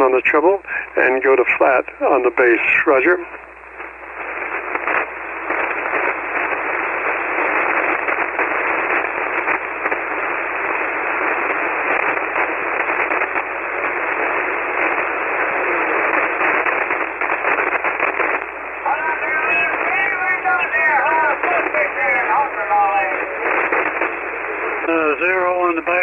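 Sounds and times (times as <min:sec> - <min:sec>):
radio band noise hiss: 0:00.0 - 0:26.0
static crackles: 0:00.0 - 0:26.0.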